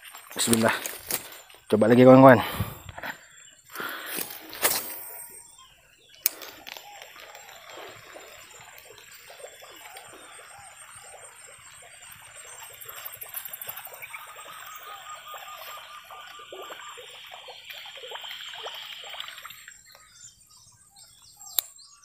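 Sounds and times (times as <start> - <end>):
water trickling and lapping: 0.0 - 21.6
faint thin chirping: 0.1 - 21.8.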